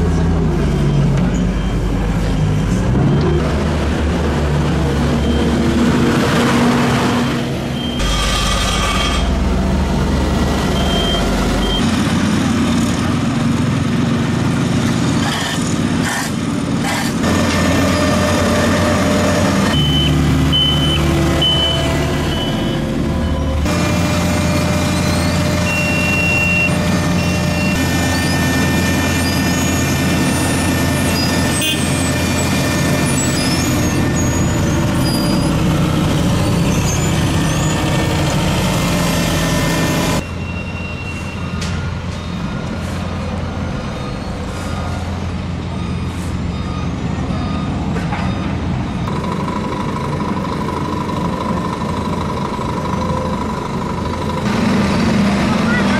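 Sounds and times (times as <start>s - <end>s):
dump truck engine: 0.0s - 55.9s
paving machine engine drone: 0.0s - 55.9s.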